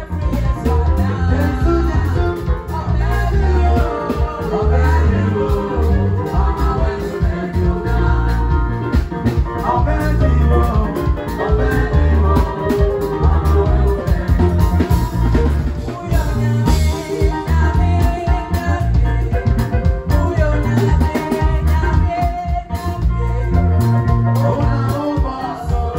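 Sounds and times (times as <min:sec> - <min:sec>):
woman singing into a microphone: 0:00.0 - 0:07.5, 0:09.6 - 0:15.0, 0:15.8 - 0:25.9
drum kit: 0:00.0 - 0:25.9
electric guitar: 0:00.0 - 0:25.9
pulsing bass line: 0:00.0 - 0:25.9.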